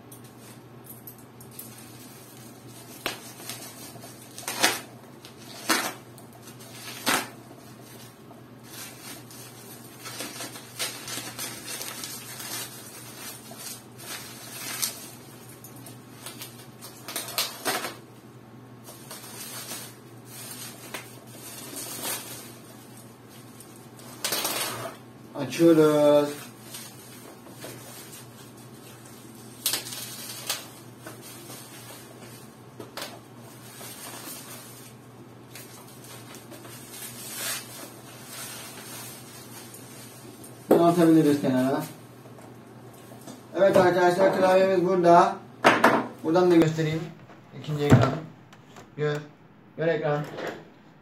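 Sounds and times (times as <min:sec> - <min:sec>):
bubble wrap and tape crackling: 0:00.1 - 0:18.2, 0:18.8 - 0:45.2.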